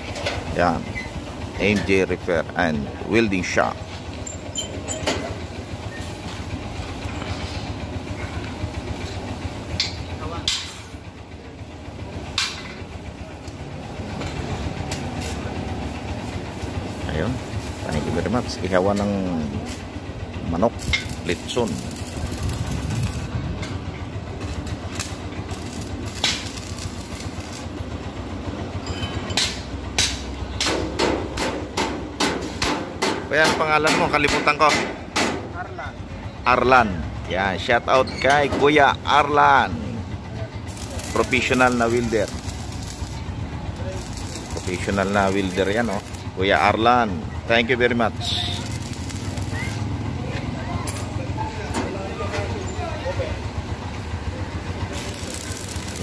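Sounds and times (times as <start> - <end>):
pulsing engine-like rumble: 0.2 - 56.0.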